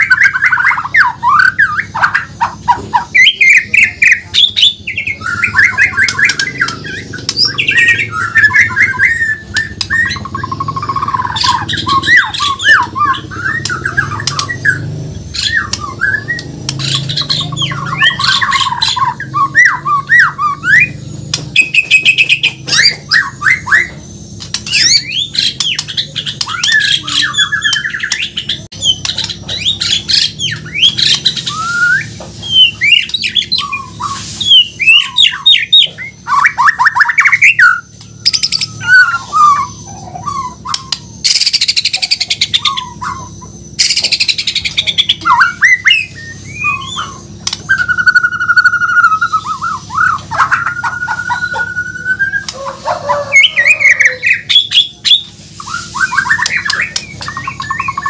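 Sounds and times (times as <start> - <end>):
songbird trilling and whistling: 0.0 - 58.0.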